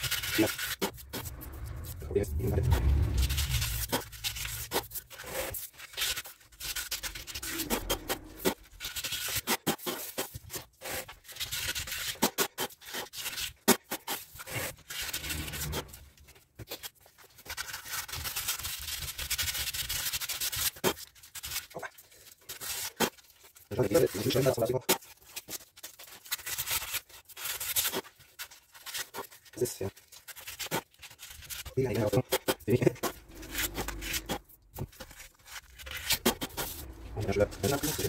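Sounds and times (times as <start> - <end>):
hands scratching masking tape: 0.0 - 38.0.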